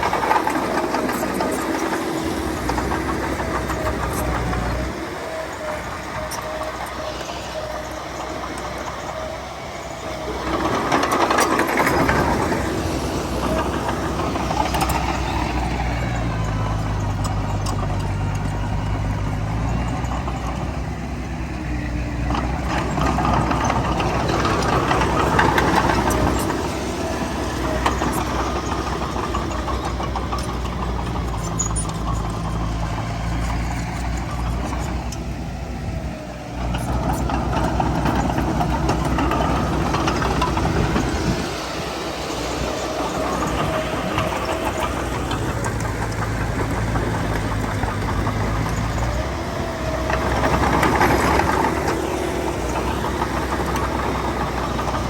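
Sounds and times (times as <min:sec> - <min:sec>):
bulldozer engine running: 0:00.0 - 0:55.0.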